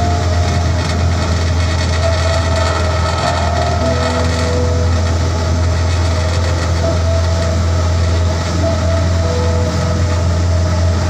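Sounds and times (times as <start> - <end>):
motorboat engine drone: 0.0 - 11.0.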